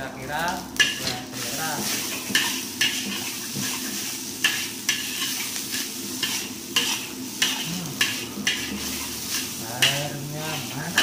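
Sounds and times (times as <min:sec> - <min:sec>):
food sizzling in a wok: 0:00.0 - 0:11.0
metal spatula scraping a wok: 0:00.8 - 0:11.0.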